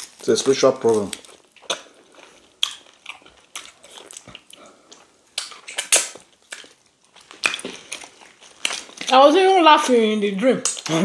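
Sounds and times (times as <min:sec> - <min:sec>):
wet chewing and mouth smacking: 0:01.1 - 0:10.0, 0:10.6 - 0:11.0.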